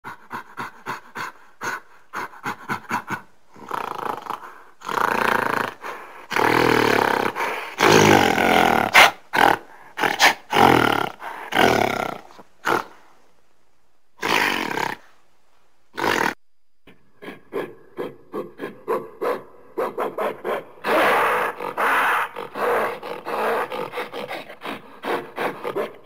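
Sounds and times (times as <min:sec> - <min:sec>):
gorilla calling: 0:00.1 - 0:13.0, 0:16.0 - 0:26.0.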